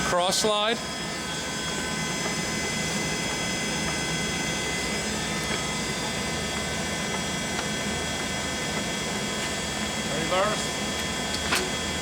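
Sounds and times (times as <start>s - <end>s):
lathe running with gear whine: 0.0s - 12.0s.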